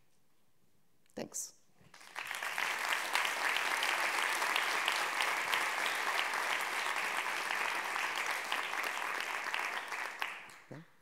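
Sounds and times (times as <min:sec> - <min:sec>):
audience applauding: 0:01.9 - 0:10.8.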